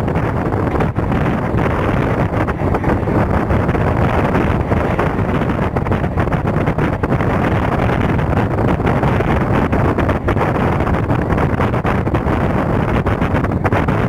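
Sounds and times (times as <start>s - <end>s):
train wheels rumbling on rails: 0.0s - 14.0s
wind buffeting microphone: 0.0s - 14.0s.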